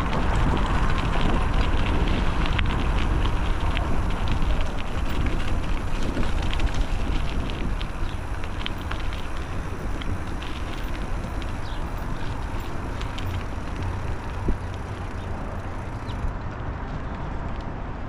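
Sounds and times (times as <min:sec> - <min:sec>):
bicycle rolling: 0:00.0 - 0:17.7
wind rumble on microphone: 0:00.0 - 0:18.0.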